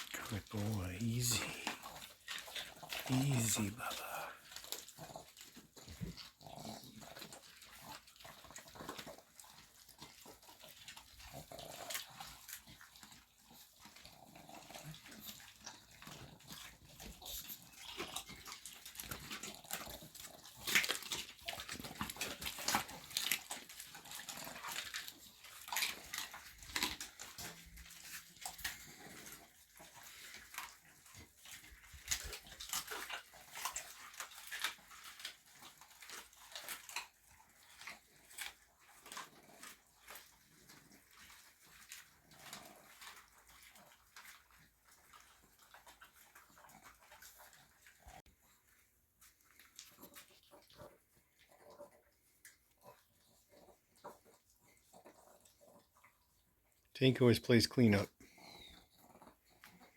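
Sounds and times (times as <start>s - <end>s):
dogs chewing food: 0.0s - 59.9s.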